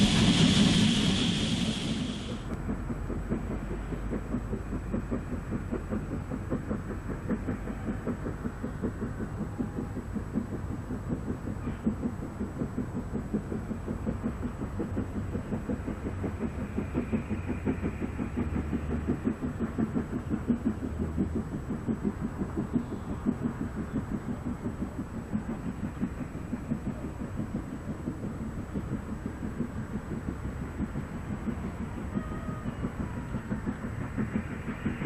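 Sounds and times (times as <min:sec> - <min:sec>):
steam locomotive chuffing: 0:00.0 - 0:35.0.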